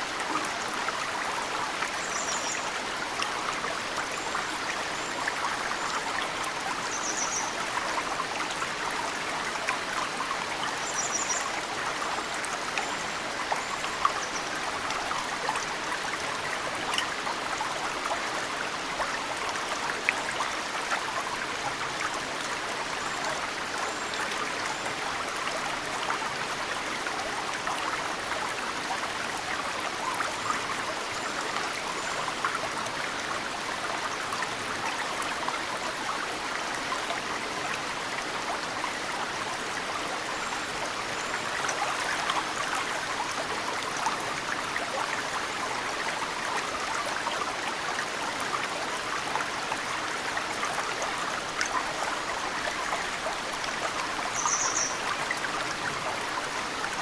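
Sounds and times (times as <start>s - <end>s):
mountain stream running: 0.0s - 57.0s.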